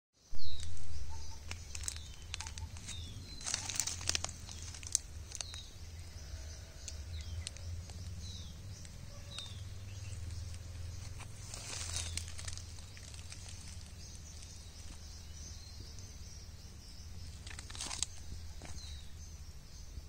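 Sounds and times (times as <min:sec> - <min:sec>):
crackling rustles: 0:00.4 - 0:16.2, 0:17.2 - 0:19.1
bird calling: 0:00.6 - 0:20.0.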